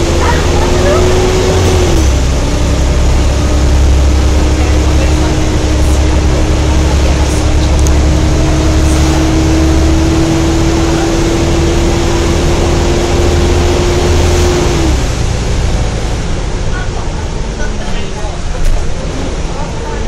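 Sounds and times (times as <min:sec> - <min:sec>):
bus whine: 0:00.0 - 0:20.0
low engine drone: 0:00.0 - 0:20.0.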